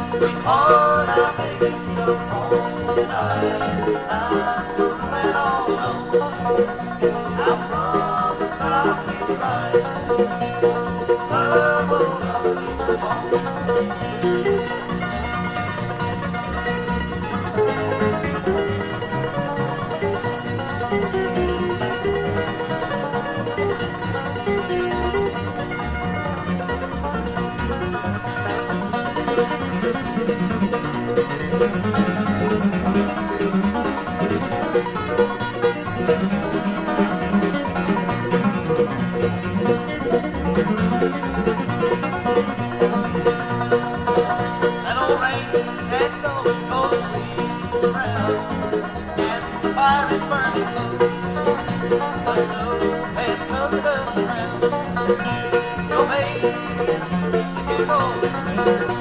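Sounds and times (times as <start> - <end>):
bass: 0.0 - 59.0
guitar: 0.0 - 59.0
mandolin: 0.0 - 59.0
picked banjo: 0.0 - 59.0.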